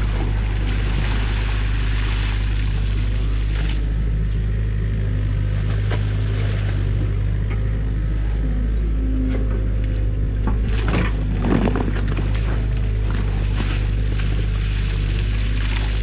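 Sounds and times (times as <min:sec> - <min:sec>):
water and mud splashing: 0:00.0 - 0:08.4, 0:09.3 - 0:16.0
diesel engine running under load: 0:00.0 - 0:16.0.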